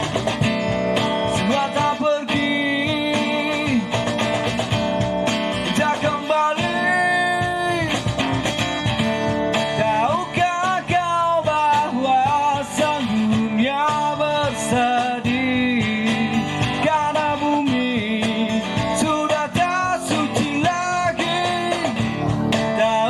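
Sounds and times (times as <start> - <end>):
band music: 0.0 - 23.0
guitar melody bending in pitch: 0.0 - 23.0.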